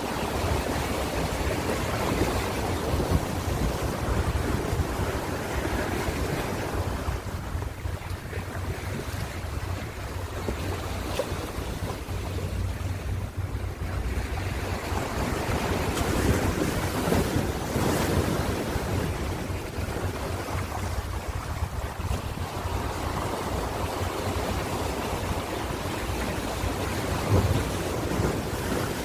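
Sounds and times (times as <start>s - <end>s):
ocean waves breaking: 0.0s - 29.0s
wind on microphone: 0.0s - 29.0s.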